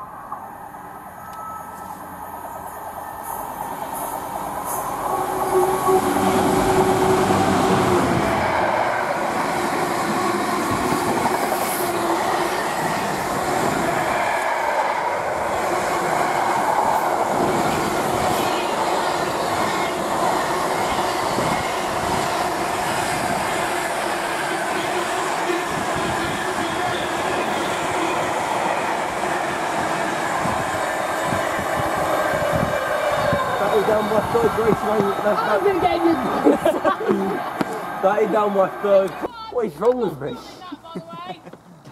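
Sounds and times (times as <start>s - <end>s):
diesel locomotive engine: 0.0s - 40.0s.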